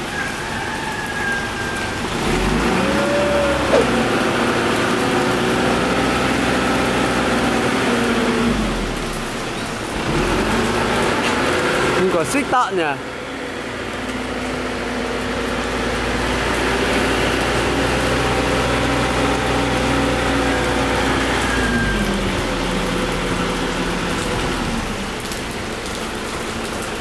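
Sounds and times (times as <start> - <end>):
rain falling: 0.0 - 27.0
vehicle engine running: 1.8 - 27.0.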